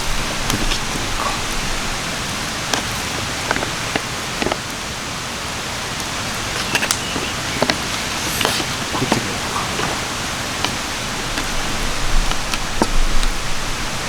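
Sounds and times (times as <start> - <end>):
campfire hiss and crackles: 0.0 - 14.0.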